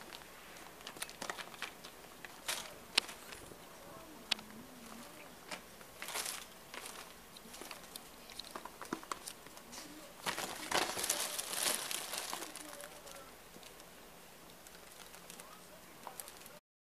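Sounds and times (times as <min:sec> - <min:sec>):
plastic sheet rustling: 0:00.0 - 0:03.6, 0:04.8 - 0:14.0, 0:14.6 - 0:16.6.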